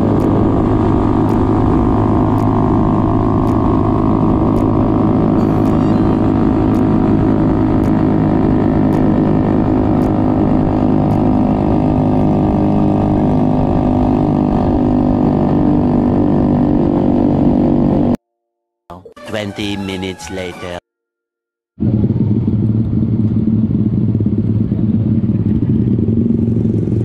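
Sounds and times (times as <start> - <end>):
motorcycle engine running steadily: 0.0 - 18.2, 21.8 - 27.0.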